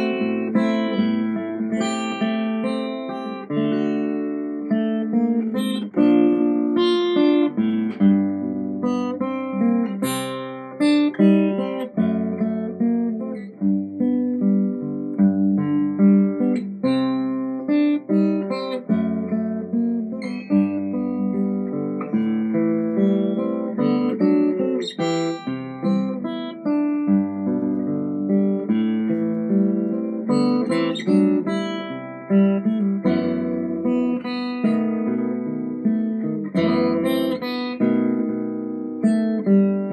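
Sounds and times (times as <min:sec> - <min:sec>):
acoustic guitar chords strummed: 0:00.0 - 0:39.9.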